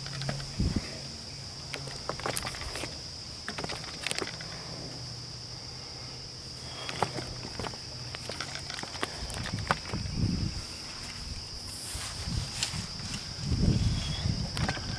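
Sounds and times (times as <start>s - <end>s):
high-pitched insect chorus: 0.0s - 14.9s.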